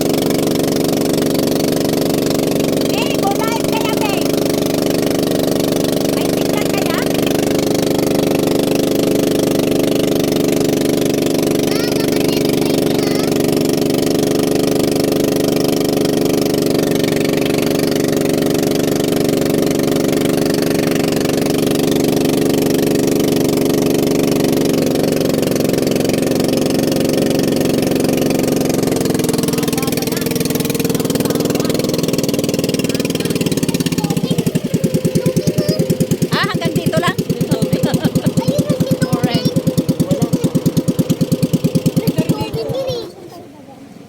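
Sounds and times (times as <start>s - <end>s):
engine running steadily: 0.0s - 44.0s.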